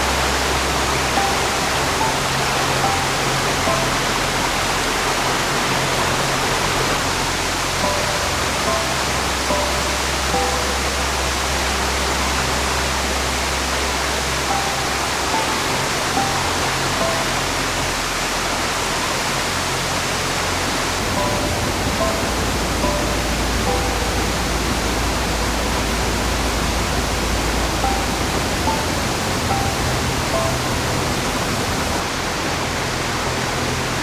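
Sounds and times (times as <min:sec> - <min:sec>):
river rushing: 0:00.0 - 0:34.0
soft musical notes: 0:00.0 - 0:34.0.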